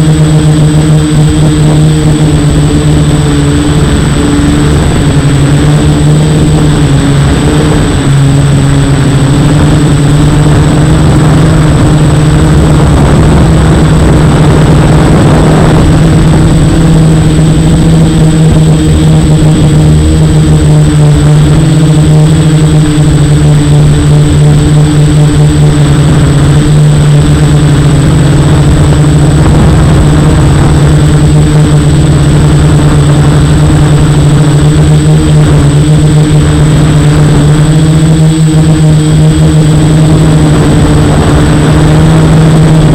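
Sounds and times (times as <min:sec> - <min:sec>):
quadcopter motors buzzing: 0:00.0 - 0:42.9.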